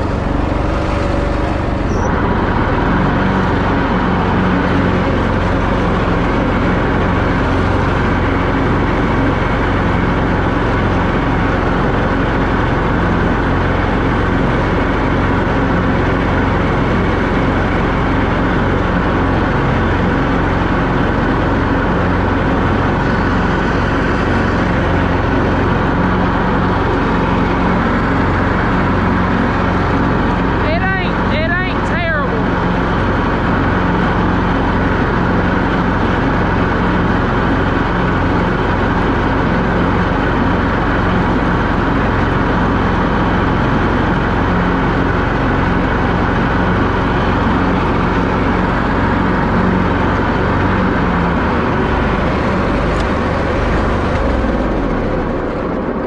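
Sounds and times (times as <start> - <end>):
lawn mower mowing grass: 0.0 - 56.0.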